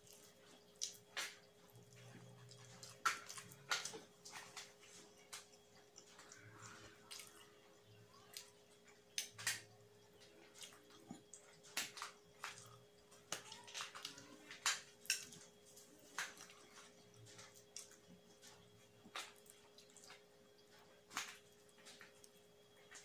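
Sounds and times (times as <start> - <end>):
faint steady hum: 0.0 - 23.0
wet chewing: 0.0 - 23.0.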